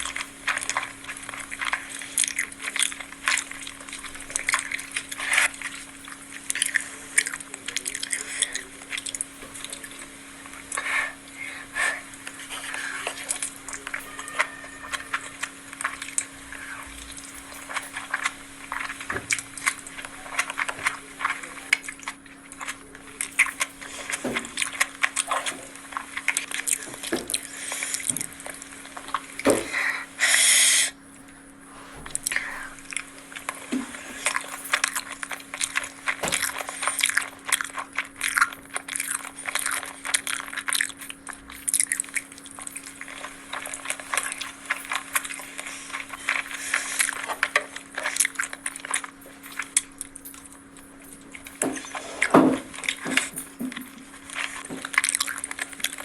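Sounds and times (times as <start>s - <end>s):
chewing and crunching: 0.0s - 56.0s
faint steady hum: 0.0s - 56.0s.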